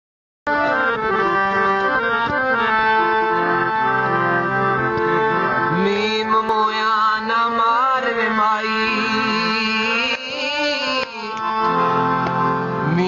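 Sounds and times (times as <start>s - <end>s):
harmonium playing: 0.5s - 13.0s.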